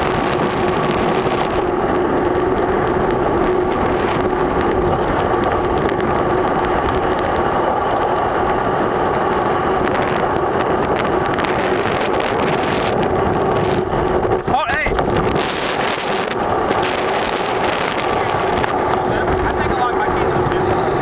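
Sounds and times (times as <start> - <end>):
constant hum: 0.0 - 21.0
strong wind on microphone: 0.0 - 21.0.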